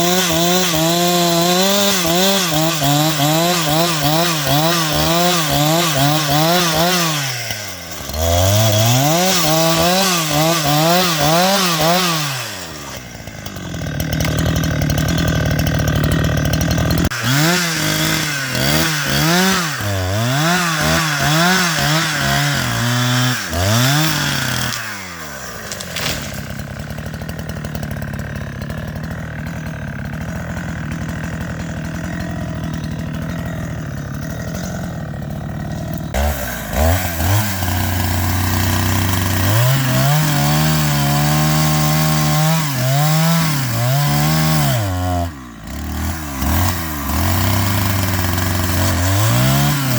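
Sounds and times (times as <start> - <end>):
chainsaw engine revving: 0.0 - 49.9.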